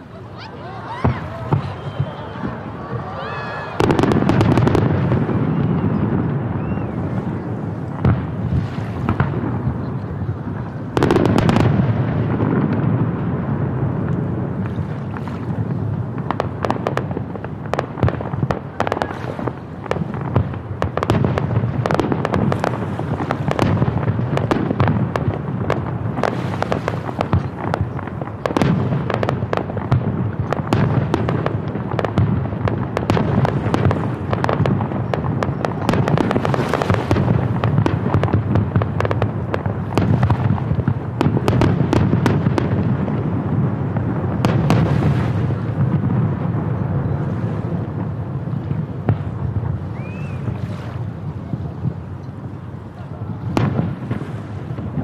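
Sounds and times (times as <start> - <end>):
rumble of fireworks booms: 0.8 - 55.0
fireworks cracks and pops: 0.9 - 52.7.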